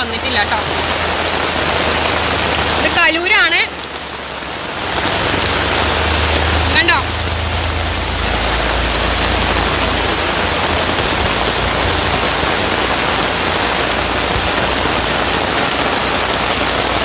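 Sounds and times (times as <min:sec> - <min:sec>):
heavy rain on standing water: 0:00.0 - 0:17.0
van driving through floodwater: 0:00.0 - 0:17.0.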